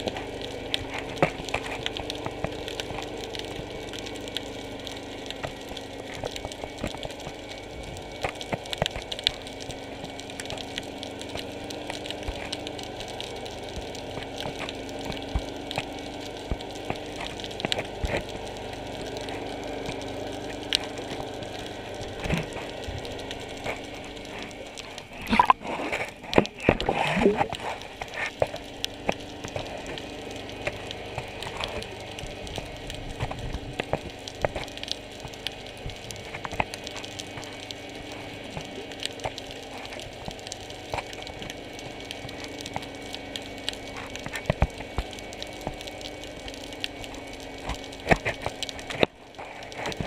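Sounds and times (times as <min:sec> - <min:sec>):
low underwater hum: 0:00.0 - 0:50.0
sharp clicks and crackles: 0:00.0 - 0:50.0.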